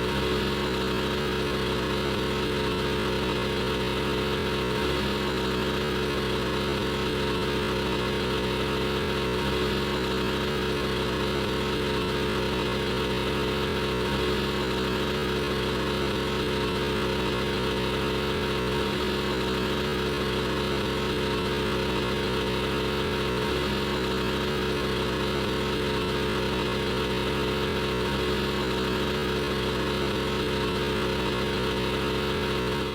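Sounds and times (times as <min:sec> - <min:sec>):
generator humming: 0:00.0 - 0:32.9.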